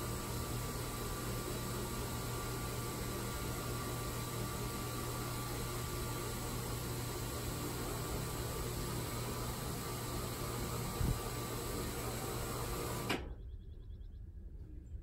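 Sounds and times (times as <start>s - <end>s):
shade motor humming: 0.0s - 13.4s.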